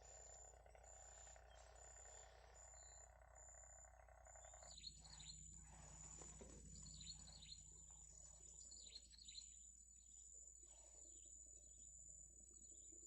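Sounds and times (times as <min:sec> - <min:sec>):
small birds chirping: 0:00.0 - 0:11.9
pulsing insect drone: 0:00.0 - 0:13.0.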